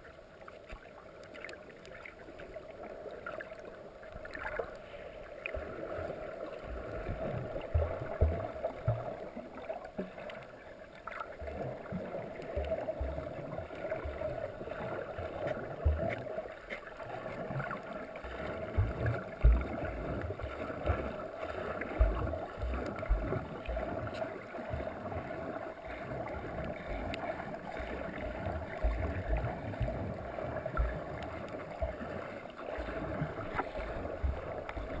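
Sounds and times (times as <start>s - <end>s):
muffled underwater water noise: 0.0s - 35.0s.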